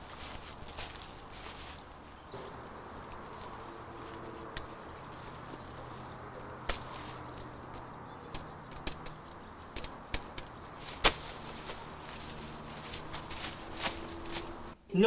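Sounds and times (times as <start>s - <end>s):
footsteps on dry leaves: 0.0s - 7.9s, 10.1s - 14.8s.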